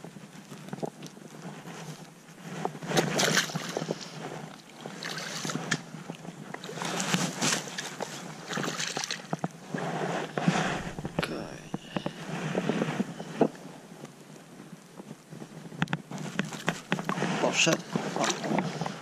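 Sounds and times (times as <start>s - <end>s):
water splashing and sloshing: 0.4s - 15.0s, 15.9s - 19.0s.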